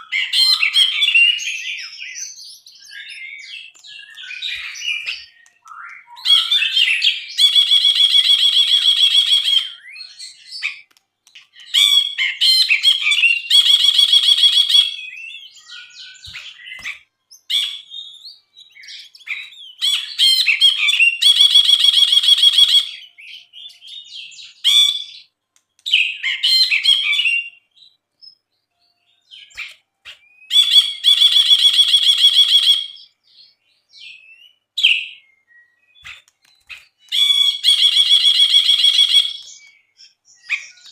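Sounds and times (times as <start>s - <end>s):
bird chirps and chatter: 0.0s - 28.0s, 29.4s - 40.9s.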